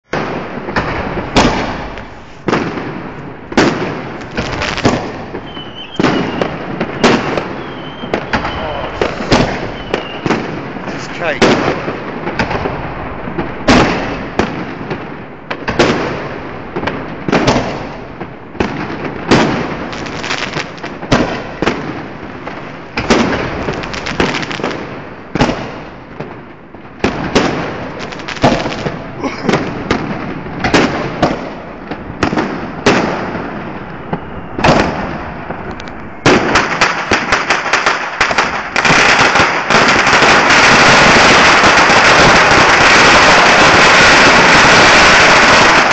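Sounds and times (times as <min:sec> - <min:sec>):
fireworks crackling: 0:00.0 - 0:45.9
fireworks banging: 0:00.1 - 0:45.9.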